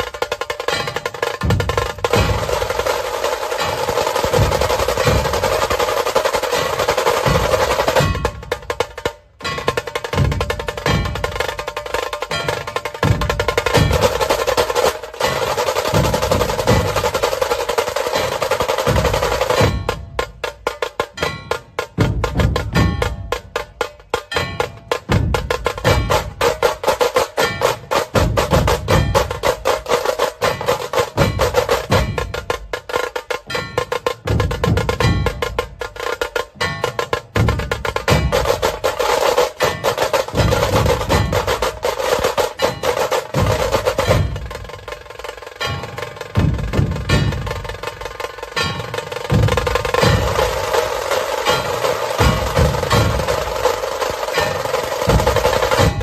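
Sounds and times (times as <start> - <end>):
drum troupe drumming fast: 0.0 - 56.0.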